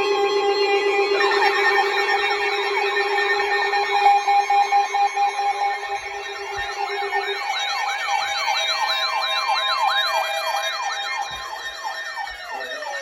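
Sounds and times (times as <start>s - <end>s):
electronic siren yelping: 1.2s - 13.0s.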